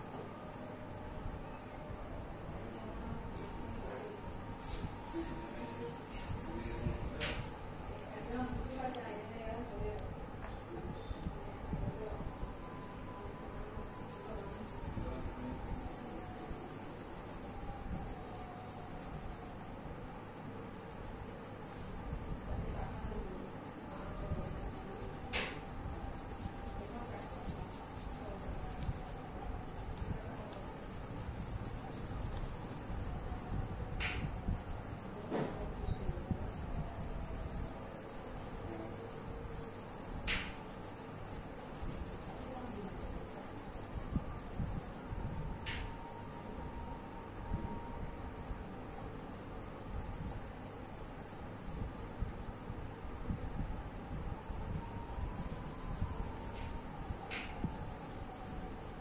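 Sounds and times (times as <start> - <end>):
colouring strokes on paper: 2.8 - 59.0.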